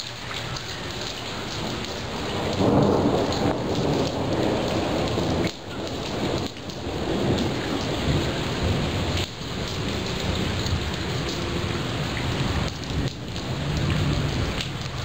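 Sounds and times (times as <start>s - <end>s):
steady rain falling: 0.0s - 15.0s
thunder rumbling: 1.5s - 15.0s.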